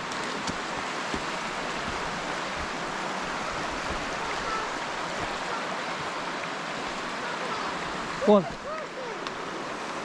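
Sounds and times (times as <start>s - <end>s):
water flowing over rocks: 0.0s - 10.0s.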